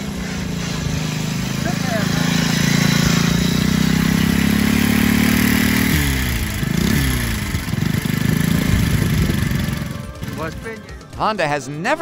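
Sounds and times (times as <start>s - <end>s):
small bicycle engine running: 0.0s - 12.0s.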